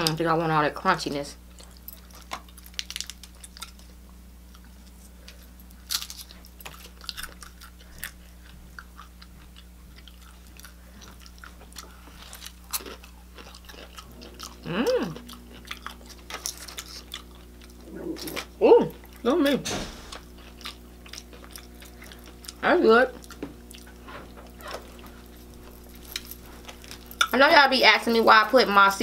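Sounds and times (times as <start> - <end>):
chewing crunchy fried food: 1.5 - 19.3, 20.2 - 29.0.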